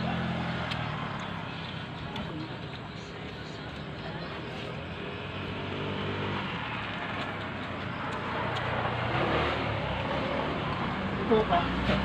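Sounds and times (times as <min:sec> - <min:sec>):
background noise: 0:00.0 - 0:12.0
vehicle engine running: 0:00.0 - 0:12.0.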